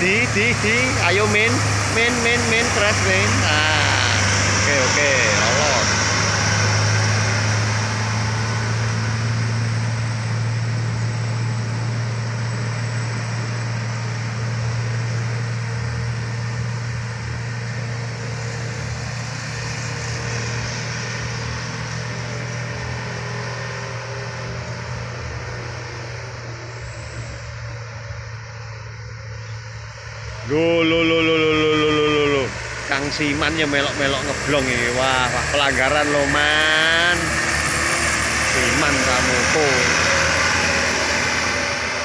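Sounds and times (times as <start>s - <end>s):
large vehicle engine running: 0.0s - 42.0s
road noise: 0.0s - 42.0s.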